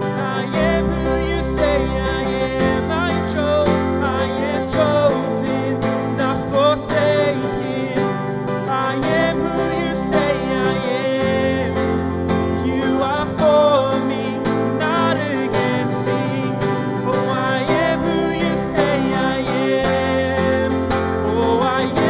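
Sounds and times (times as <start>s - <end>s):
keyboard: 0.0s - 22.0s
strummed acoustic guitar: 0.0s - 22.0s.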